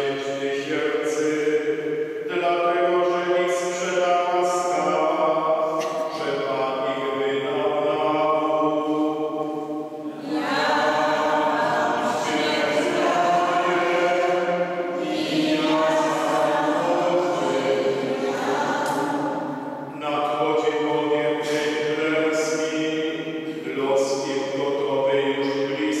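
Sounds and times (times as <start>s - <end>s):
person chanting into a microphone: 0.0s - 26.0s.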